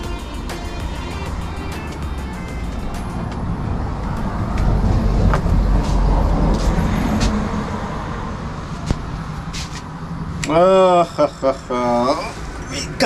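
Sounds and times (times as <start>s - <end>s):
vehicle passing rumble: 0.0s - 13.0s.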